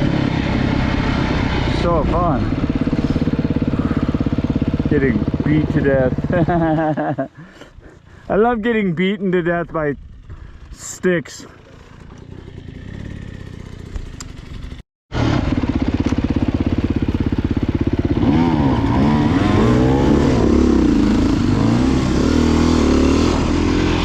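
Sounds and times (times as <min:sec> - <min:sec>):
motorcycle engine revving: 0:00.0 - 0:07.3, 0:11.4 - 0:24.0.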